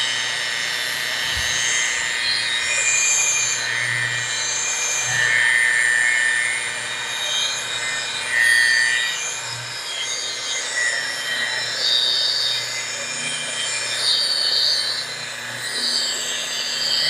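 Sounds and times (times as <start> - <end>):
rotary polisher motor whining: 0.0 - 17.0.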